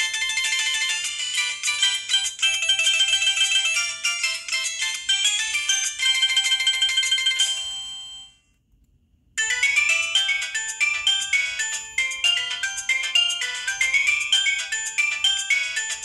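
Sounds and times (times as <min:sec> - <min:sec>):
electronic phone ringtone melody: 0:00.0 - 0:08.4, 0:09.4 - 0:16.0.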